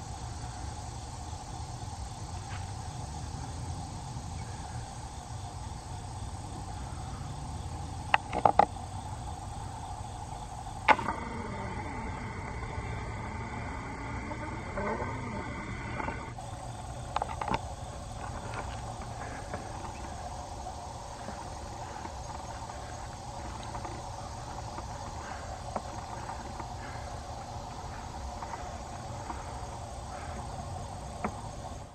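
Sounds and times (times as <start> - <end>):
insect-like drone: 0.0 - 31.9.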